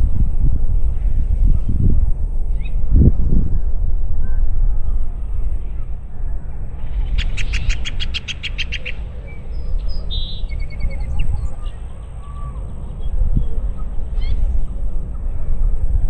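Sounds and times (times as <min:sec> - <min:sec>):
low rumble of wind: 0:00.0 - 0:16.0
birds singing: 0:02.5 - 0:15.5.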